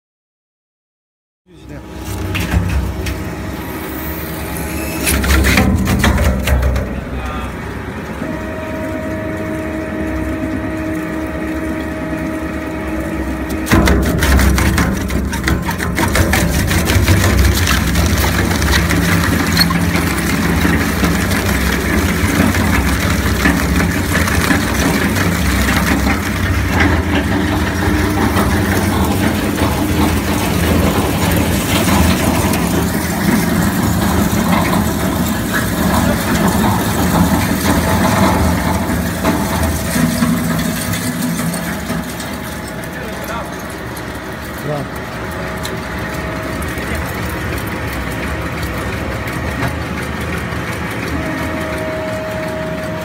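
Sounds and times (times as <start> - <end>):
shredder motor drone: 1.6 - 53.0
shredder crunching and cracking: 2.0 - 7.2, 13.1 - 53.0.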